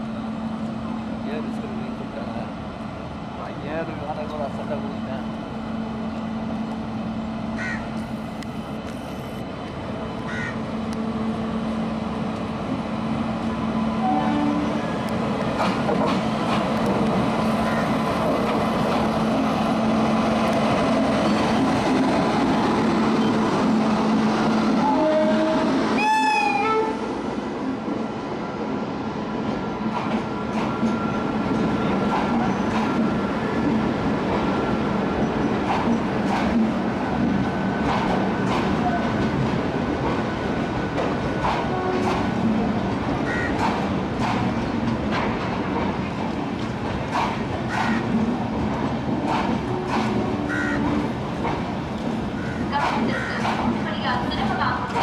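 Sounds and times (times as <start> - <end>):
electric locomotive hum: 0.0 - 55.0
train wheels rumbling: 0.0 - 55.0.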